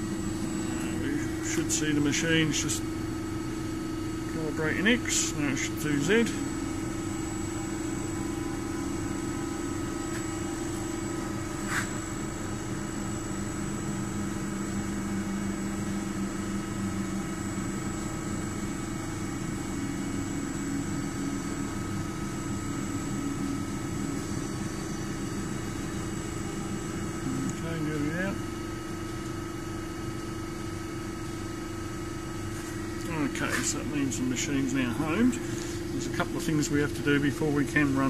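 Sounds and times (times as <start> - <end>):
lathe machine hum: 0.0 - 38.0
lower machine tone: 0.0 - 38.0.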